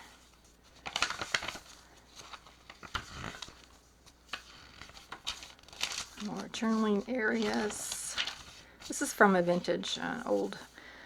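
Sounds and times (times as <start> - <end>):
paper rustling and crinkling: 0.0 - 10.8.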